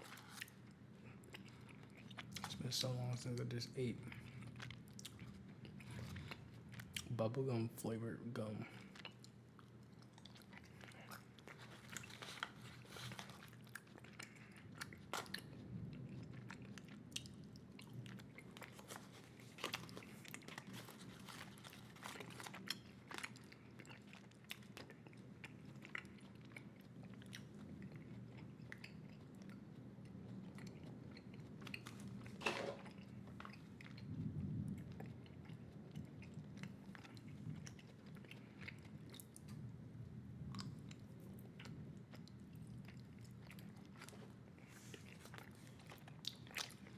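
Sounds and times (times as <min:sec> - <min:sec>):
wet chewing of gum: 0:00.0 - 0:07.2, 0:08.6 - 0:46.9.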